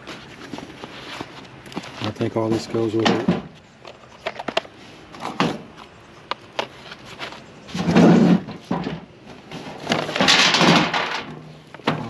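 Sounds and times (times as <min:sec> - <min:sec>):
objects rattling and scraping: 0:00.0 - 0:12.0.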